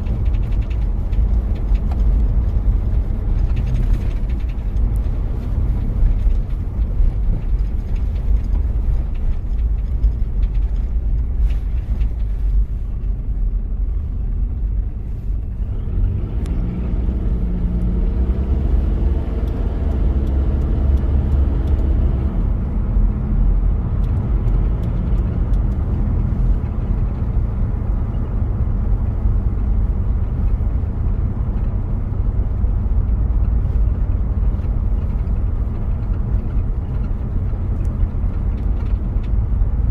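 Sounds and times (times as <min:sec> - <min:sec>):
diesel engine running: 0:00.0 - 0:39.9
road noise: 0:00.0 - 0:39.9.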